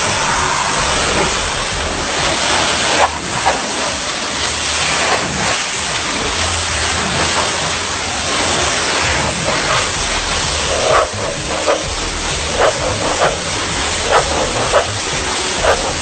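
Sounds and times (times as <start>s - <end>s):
low machine hum: 0.0s - 16.0s
pressure washer spray hissing: 0.0s - 16.0s.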